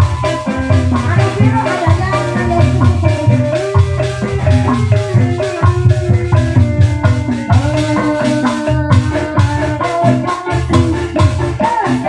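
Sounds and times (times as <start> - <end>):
bass guitar line: 0.0 - 12.0
kendang drum pitch-bending strokes: 0.0 - 12.0
melody line: 0.0 - 12.0.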